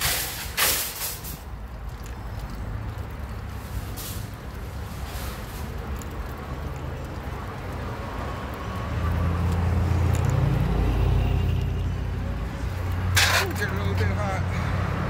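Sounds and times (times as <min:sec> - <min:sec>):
street traffic noise: 0:00.0 - 0:15.0
vehicle low rumble: 0:00.0 - 0:15.0.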